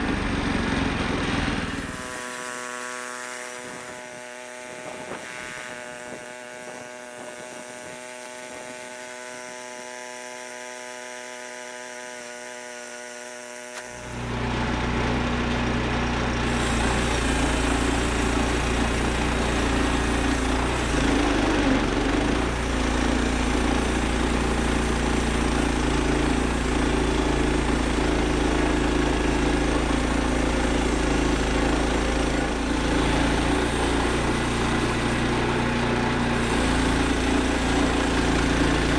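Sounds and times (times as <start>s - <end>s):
gas engine running: 0.0s - 10.9s, 13.8s - 38.9s
band saw blade cutting log: 0.1s - 14.7s, 16.5s - 38.9s.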